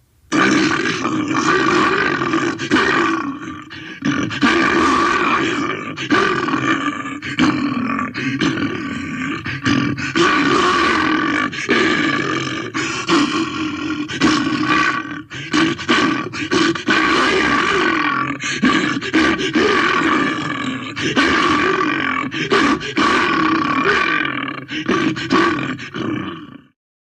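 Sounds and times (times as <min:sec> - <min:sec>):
bear roaring and growling: 0:00.3 - 0:26.8.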